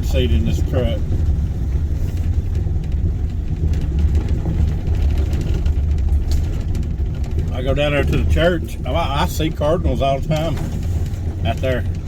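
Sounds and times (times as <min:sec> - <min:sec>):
faint rattles: 0:00.0 - 0:12.0
truck engine and road rumble: 0:00.0 - 0:12.0.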